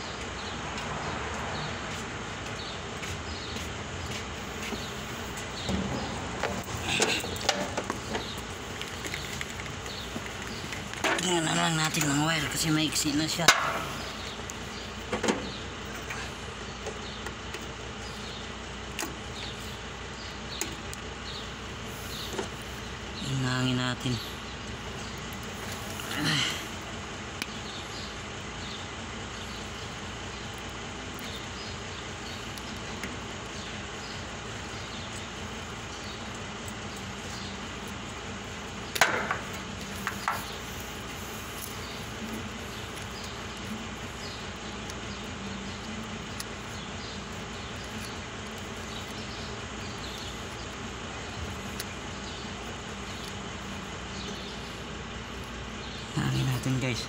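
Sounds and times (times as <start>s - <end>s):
machinery humming: 0.1s - 57.0s
constant hiss: 2.0s - 57.0s.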